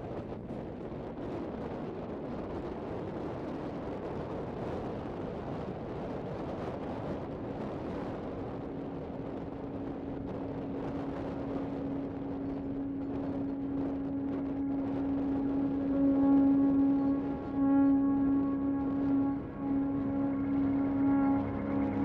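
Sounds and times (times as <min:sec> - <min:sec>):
wind on microphone: 0:00.0 - 0:22.0
droning tone: 0:02.9 - 0:22.0.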